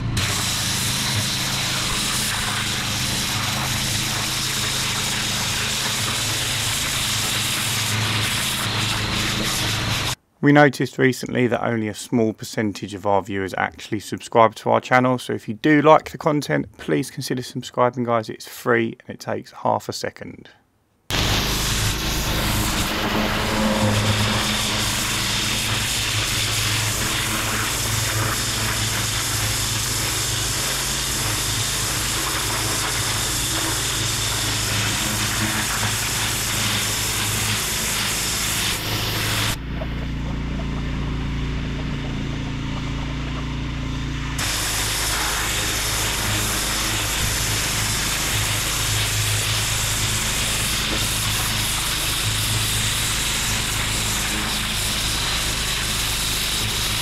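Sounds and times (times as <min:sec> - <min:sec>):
pressure washer motor running: 0:00.0 - 0:10.2, 0:21.1 - 0:57.0
pressure washer spraying on paving: 0:00.0 - 0:10.2, 0:21.1 - 0:57.0.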